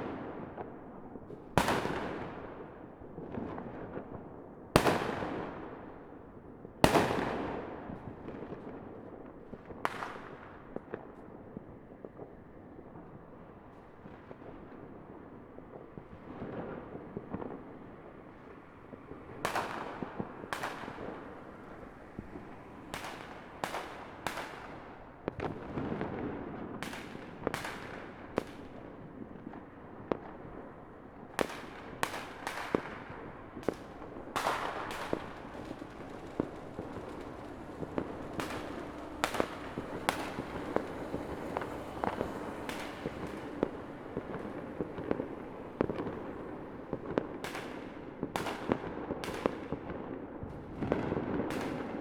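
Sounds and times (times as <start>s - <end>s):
fireworks bangs: 0.0s - 6.2s, 6.8s - 11.1s, 15.7s - 52.0s
background din of fireworks: 0.0s - 52.0s.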